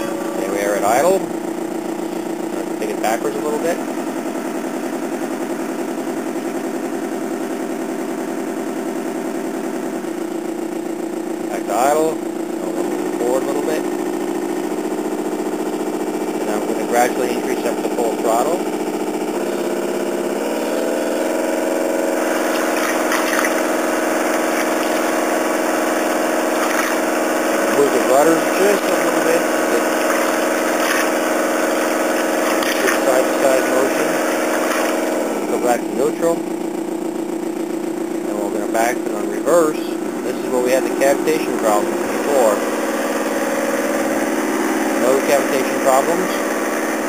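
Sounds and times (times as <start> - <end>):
propeller churning water: 0.0 - 47.0
simulated diesel engine running: 0.0 - 47.0.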